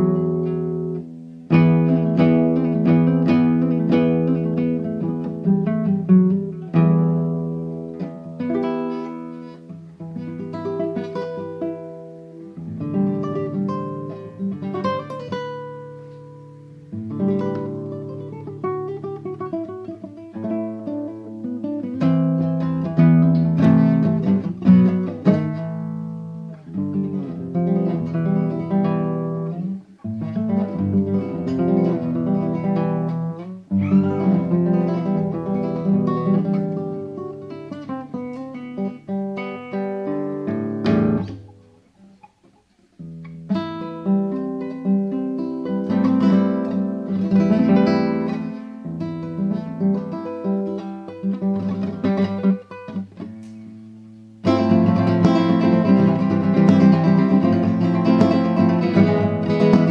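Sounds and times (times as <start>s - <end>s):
solo guitar playing: 0.0s - 59.9s.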